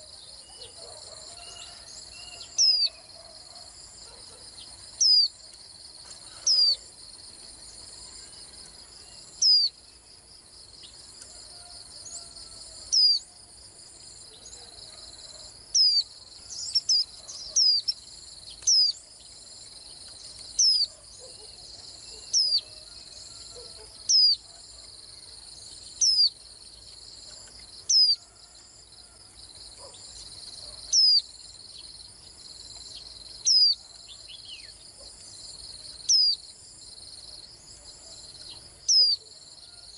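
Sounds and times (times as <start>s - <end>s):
bird chirping: 0.0s - 10.0s, 12.1s - 13.3s, 14.1s - 24.7s, 25.6s - 28.2s, 29.8s - 36.4s, 37.7s - 39.4s.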